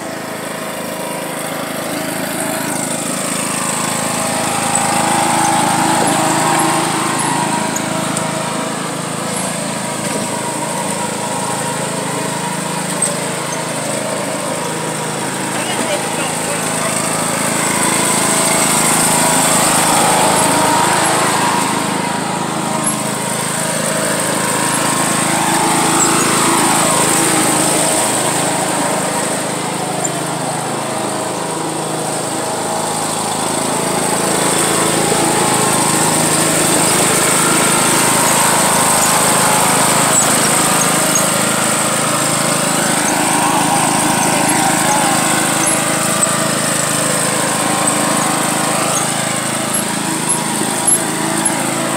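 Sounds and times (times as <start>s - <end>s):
riding lawn mower engine: 0.0s - 51.9s.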